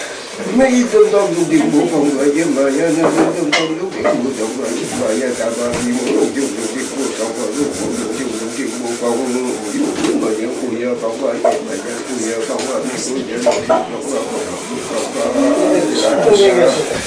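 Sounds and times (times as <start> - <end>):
man chanting a prayer: 0.4 - 17.0.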